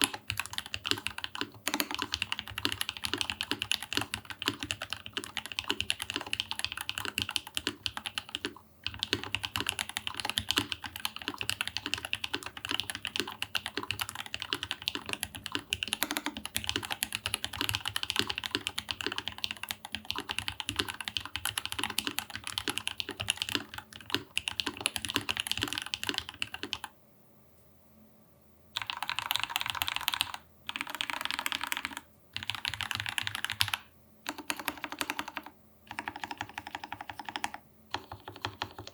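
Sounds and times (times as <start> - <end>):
typing on mechanical keyboard: 0.0 - 26.9, 28.8 - 38.9.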